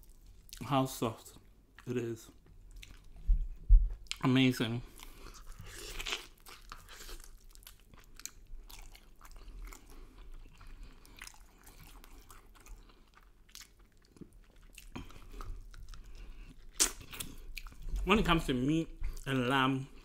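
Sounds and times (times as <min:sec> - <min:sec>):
person chewing: 0:01.8 - 0:20.0.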